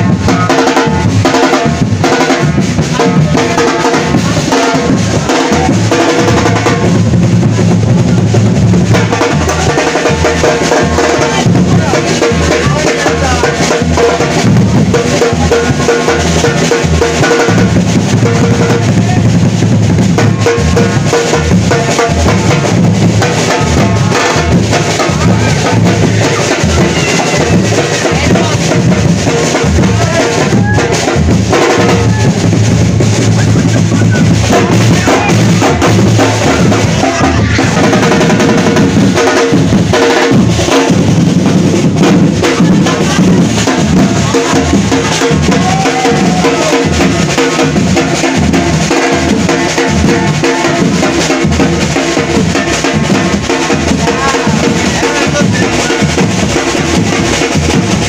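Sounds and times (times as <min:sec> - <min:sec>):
snare drums: 0:00.0 - 0:58.0
street drum group drumming: 0:00.0 - 0:58.0.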